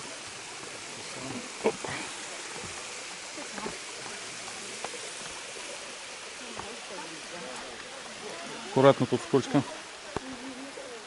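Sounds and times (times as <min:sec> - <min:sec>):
water rushing into rock pool: 0:00.0 - 0:11.0.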